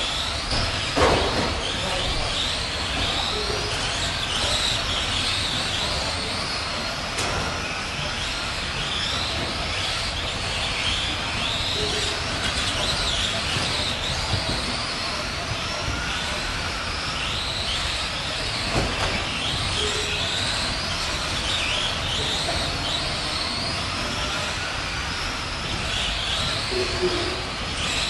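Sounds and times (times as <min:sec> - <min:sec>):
toy car motors whining: 0:00.0 - 0:28.0.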